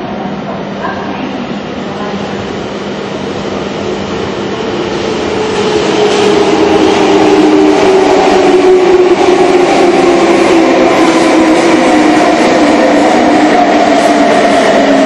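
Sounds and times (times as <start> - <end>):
electric train rumble echoing: 0.0 - 15.0.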